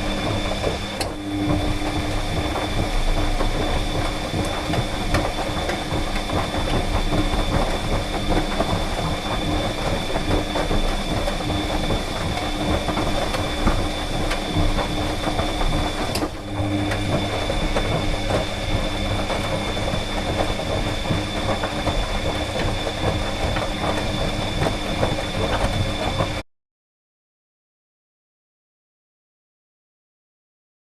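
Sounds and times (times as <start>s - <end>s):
dryer drum tumbling: 0.0s - 26.4s
dryer motor hum and whine: 0.0s - 26.4s.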